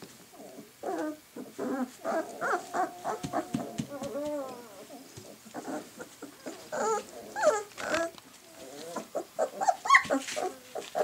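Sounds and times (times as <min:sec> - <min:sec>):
puppies grumbling: 0:00.3 - 0:11.0
puppies yipping: 0:00.8 - 0:11.0.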